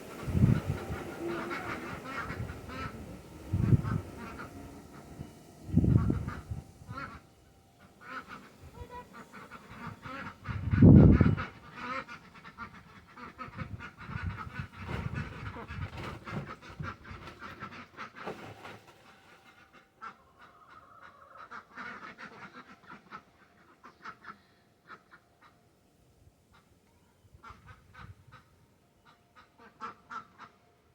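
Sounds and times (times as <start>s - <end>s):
ducks quacking: 0.0s - 18.5s, 19.7s - 25.6s, 29.4s - 30.6s.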